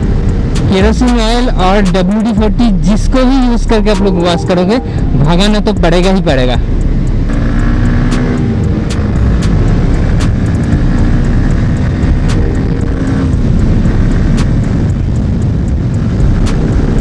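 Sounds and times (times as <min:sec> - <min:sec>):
motorcycle engine running: 0:00.0 - 0:17.0
steady low rumble: 0:00.0 - 0:17.0.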